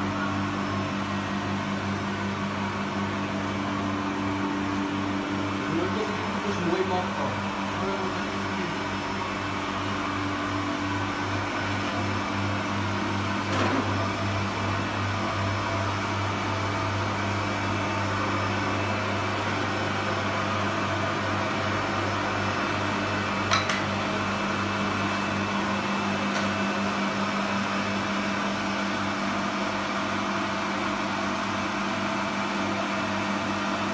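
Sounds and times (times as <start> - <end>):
machinery humming and hissing: 0.0 - 33.9.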